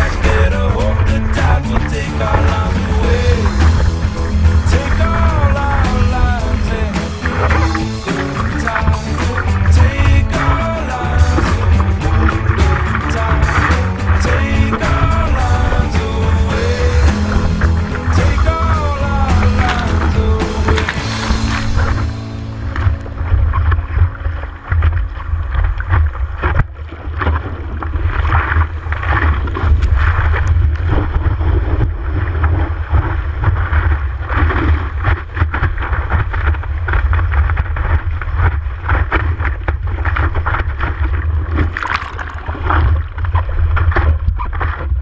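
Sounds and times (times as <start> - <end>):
low rumble of water: 0.0 - 45.0
water splashing over surfboard: 0.0 - 45.0
wind buffeting microphone: 0.0 - 45.0.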